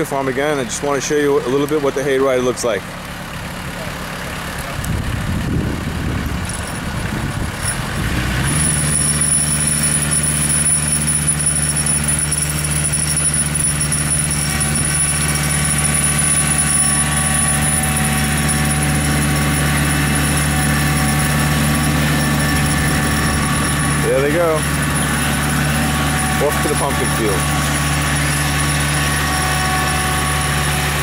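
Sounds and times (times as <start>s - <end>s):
tractor diesel engine revving: 0.0s - 31.0s.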